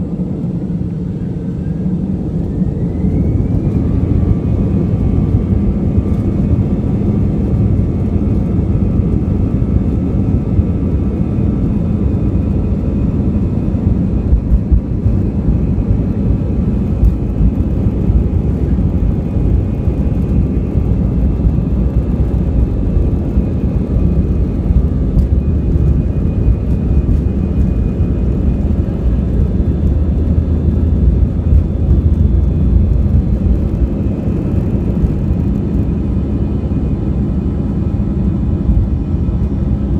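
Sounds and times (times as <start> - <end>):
faint whining tones: 0.0 - 39.9
jet engines rumbling: 0.0 - 39.9.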